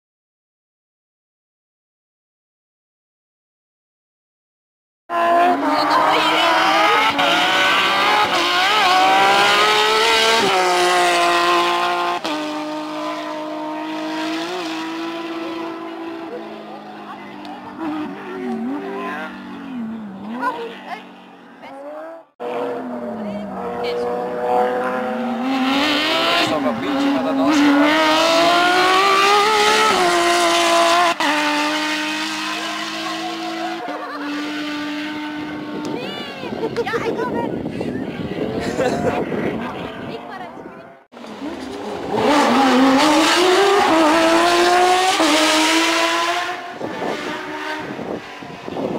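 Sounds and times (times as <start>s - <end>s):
car engine revving and shifting: 5.1s - 36.9s, 38.2s - 48.9s.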